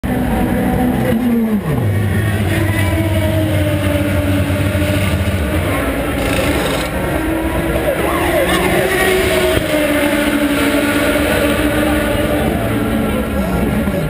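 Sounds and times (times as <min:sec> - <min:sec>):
racing car engine: 0:00.0 - 0:14.0
racing engines din: 0:00.0 - 0:14.0.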